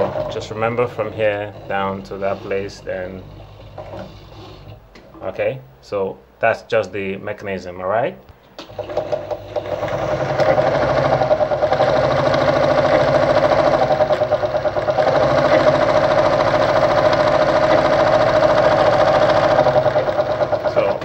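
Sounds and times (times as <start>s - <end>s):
sewing machine motor running: 0.0s - 4.8s, 8.6s - 21.0s.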